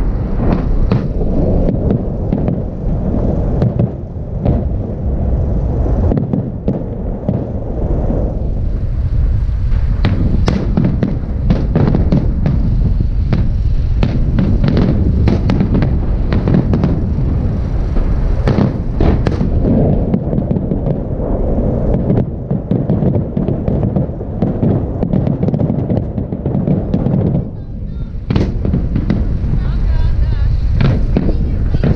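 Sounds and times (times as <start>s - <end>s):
fireworks bangs and crackles: 0.0s - 31.9s
low rumble: 0.0s - 31.9s.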